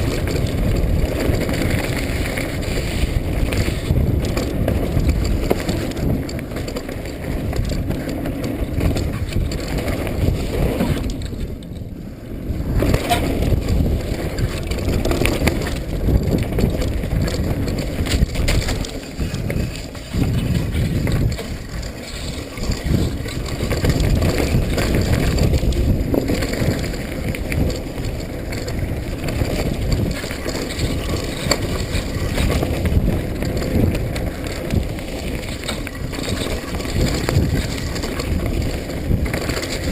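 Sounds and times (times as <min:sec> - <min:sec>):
bike rattling and knocking: 0:00.0 - 0:39.9
wind on microphone: 0:00.0 - 0:39.9.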